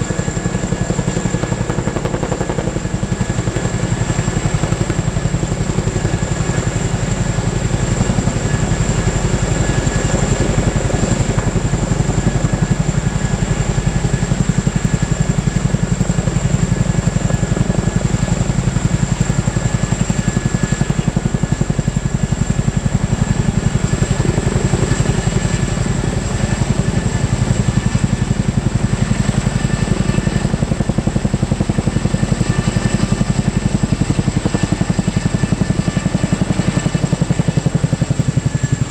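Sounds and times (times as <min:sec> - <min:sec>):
helicopter rotor beat: 0:00.0 - 0:38.9.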